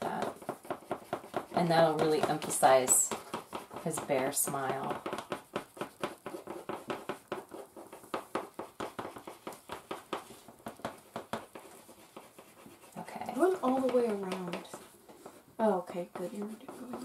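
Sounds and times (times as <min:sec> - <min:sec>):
crayons scratching on paper: 0:00.0 - 0:17.0.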